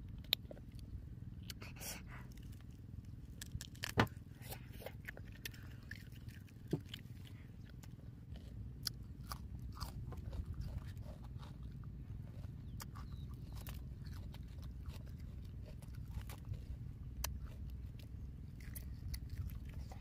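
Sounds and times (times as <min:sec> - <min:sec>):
low hum: 0:00.0 - 0:20.0
person chewing chicken: 0:00.0 - 0:20.0.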